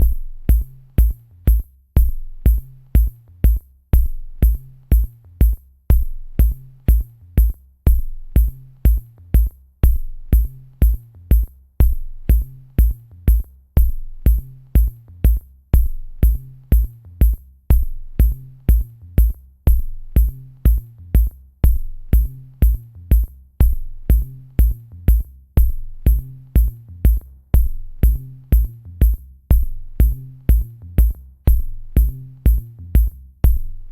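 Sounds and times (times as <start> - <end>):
electronic music with kick drum: 0.0 - 33.9.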